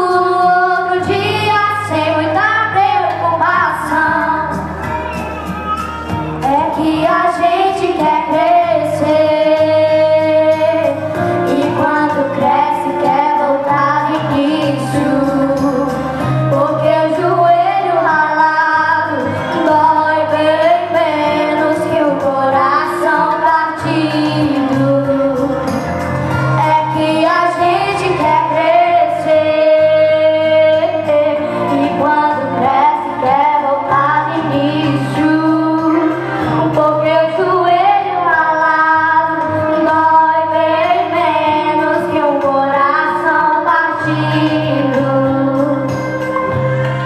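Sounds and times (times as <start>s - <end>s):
woman singing a sentimental song: 0.0s - 4.7s, 6.4s - 47.0s
steady backing music: 0.0s - 47.0s.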